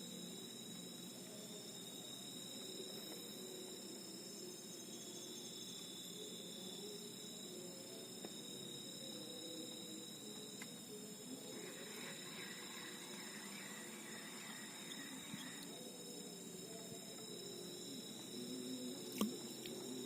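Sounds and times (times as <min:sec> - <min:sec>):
crickets calling: 0:00.0 - 0:20.0.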